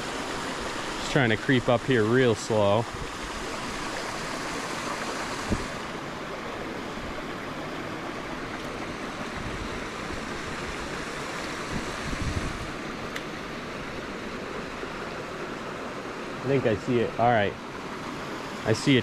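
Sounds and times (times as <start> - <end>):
brook running over rocks: 0.0 - 18.9.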